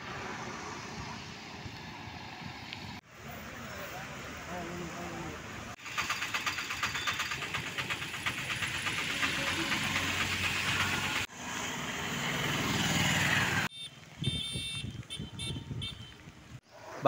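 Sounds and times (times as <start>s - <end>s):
traffic on wet road: 0.0s - 17.0s.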